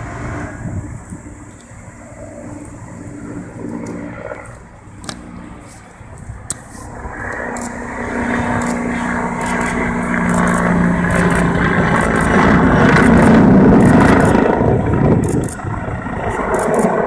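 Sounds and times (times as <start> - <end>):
helicopter flying by: 0.0 - 17.0
steady low hum: 0.0 - 17.0.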